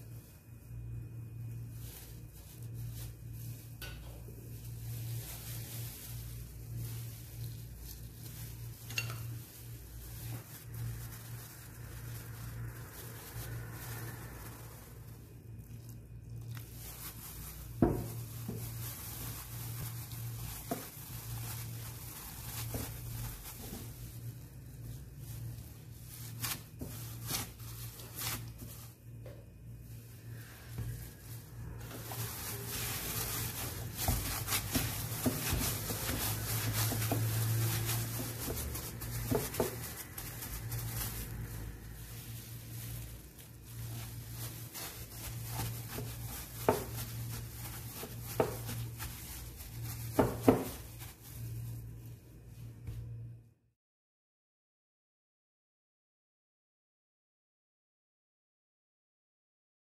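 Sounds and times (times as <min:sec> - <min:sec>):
gloved hand mixing dough: 0:00.0 - 0:53.6
low steady hum: 0:00.0 - 0:53.7.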